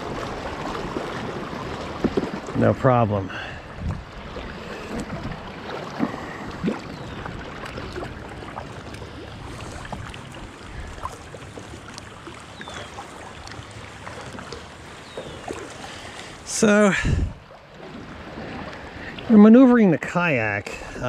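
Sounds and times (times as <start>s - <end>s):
kayak paddle splashing: 0.0s - 21.0s
water lapping along hull: 0.0s - 21.0s.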